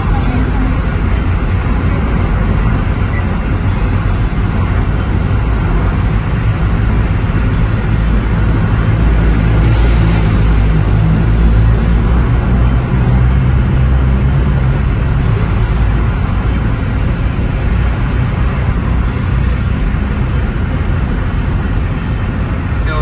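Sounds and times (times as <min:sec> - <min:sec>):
car driving rumble from inside: 0:00.0 - 0:23.0.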